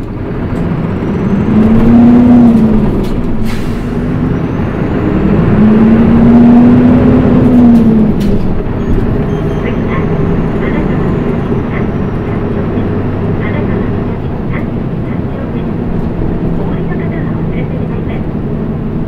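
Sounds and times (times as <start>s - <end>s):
bus diesel engine pulling away: 0.0s - 19.0s.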